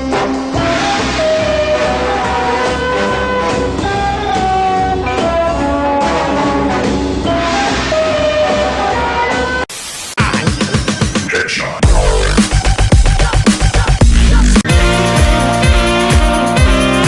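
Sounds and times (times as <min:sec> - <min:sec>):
jazzy brass and drum music: 0:00.0 - 0:09.6, 0:10.2 - 0:17.0.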